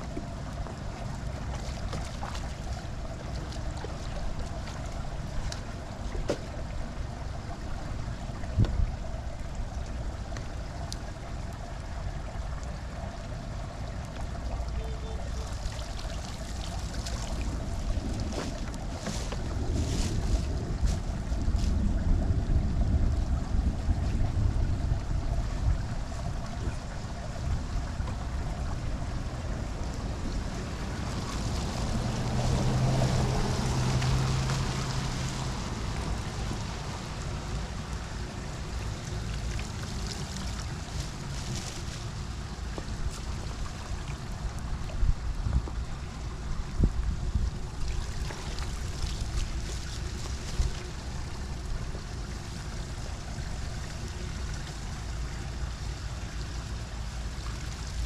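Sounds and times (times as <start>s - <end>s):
floodwater rushing into drain: 0.0s - 58.0s
wind buffeting microphone: 0.0s - 58.0s.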